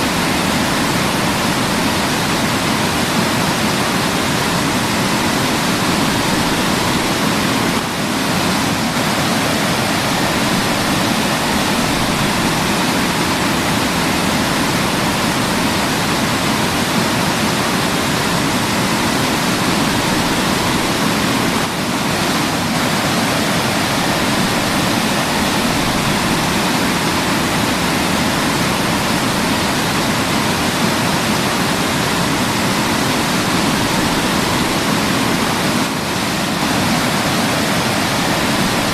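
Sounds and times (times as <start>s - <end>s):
waterfall pouring: 0.0s - 38.9s.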